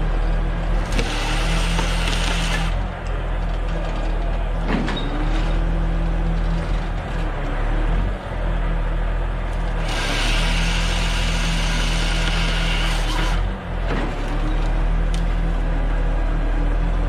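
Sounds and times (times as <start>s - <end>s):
heavy machinery engine running: 0.0s - 17.0s.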